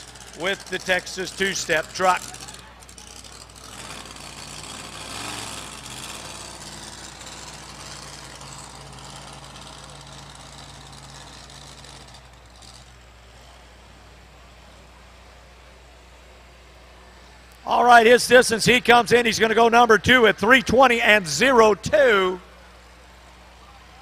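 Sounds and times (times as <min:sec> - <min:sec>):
truck engine running hard under load: 0:00.0 - 0:20.0.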